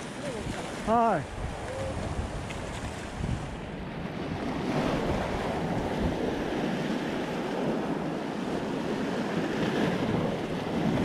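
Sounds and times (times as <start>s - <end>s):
surf washing over rocks: 0.0s - 11.0s
wind buffeting microphone: 0.0s - 11.0s.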